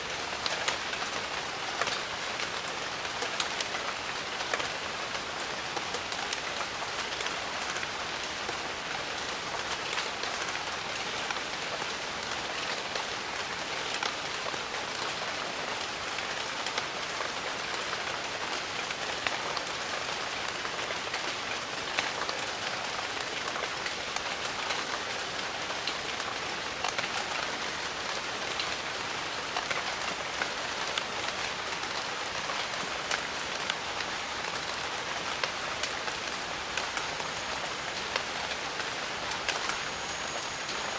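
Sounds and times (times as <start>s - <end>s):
rain falling on foliage: 0.0s - 40.9s.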